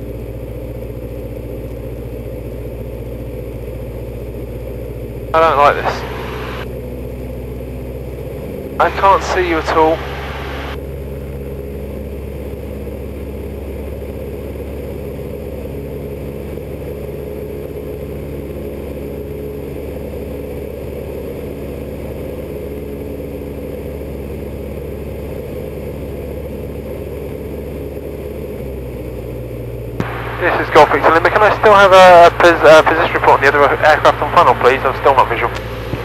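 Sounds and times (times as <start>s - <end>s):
propeller aircraft engine droning: 0.0s - 36.0s.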